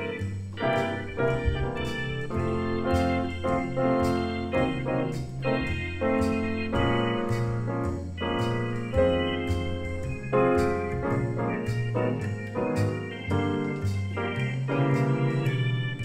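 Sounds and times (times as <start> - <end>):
jazz piano: 0.0 - 16.0
walking bass on keyboard: 0.0 - 16.0.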